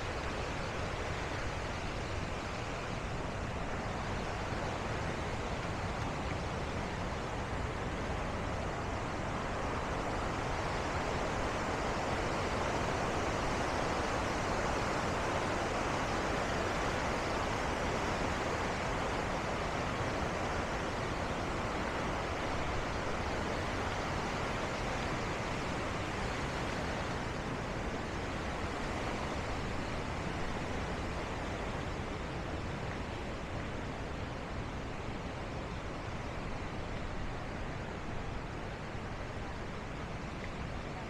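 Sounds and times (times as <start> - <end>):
waterfall roar: 0.0 - 41.0.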